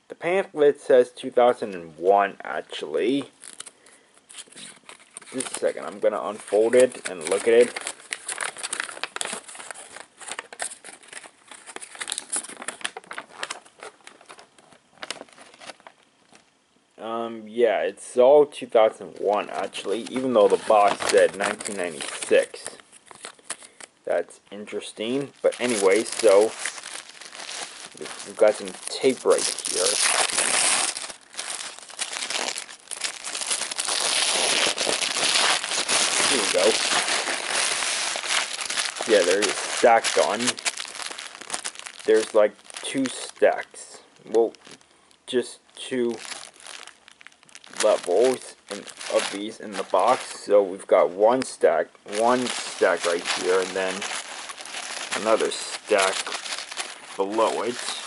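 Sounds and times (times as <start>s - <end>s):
paper crinkling and rustling: 3.1s - 16.4s, 19.2s - 23.9s, 25.0s - 43.4s, 45.8s - 50.4s, 51.3s - 58.0s.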